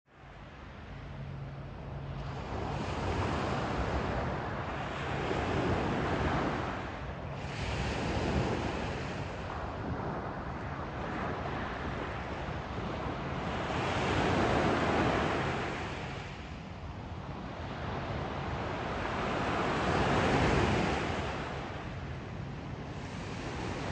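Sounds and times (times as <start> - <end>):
wind rumble on microphone: 0.1 - 23.9
waves washing over sand: 2.0 - 23.9.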